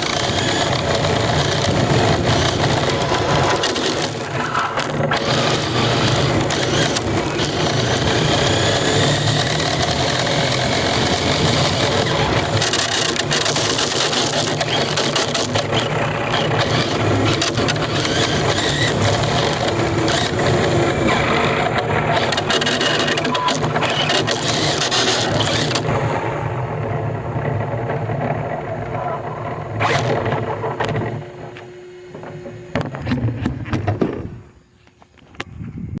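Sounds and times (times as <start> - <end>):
rc car rattling: 0.0 - 31.2
small motor whine: 0.0 - 35.9.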